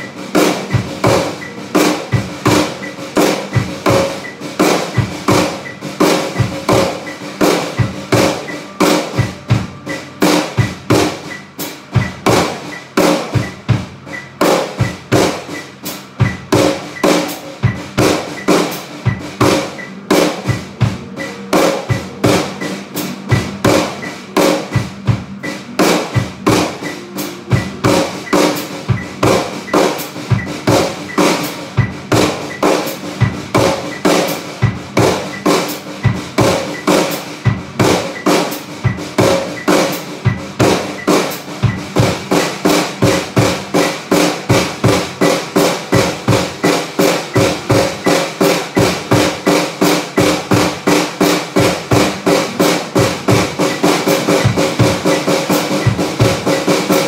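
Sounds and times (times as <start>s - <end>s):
snare drum rudiments: 0.0s - 57.0s.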